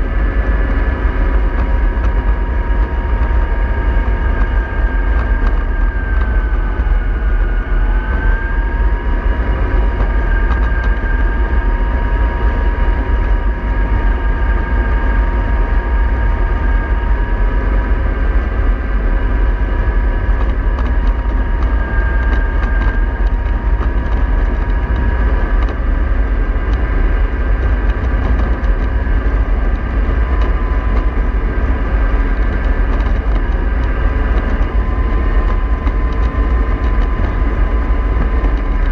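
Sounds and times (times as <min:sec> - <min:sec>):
electric motor whine: 0:00.0 - 0:38.9
model bus low rumble: 0:00.0 - 0:38.9.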